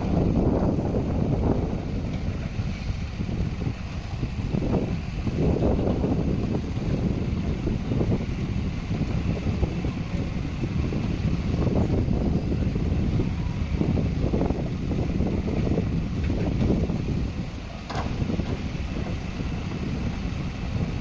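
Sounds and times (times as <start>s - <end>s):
earthmoving machinery rumbling: 0.0s - 21.0s
wind buffeting microphone: 0.0s - 21.0s.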